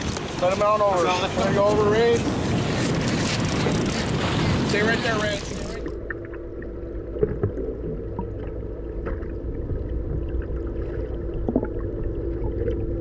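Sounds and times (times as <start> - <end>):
boat engine rumbling underwater: 0.0 - 13.0.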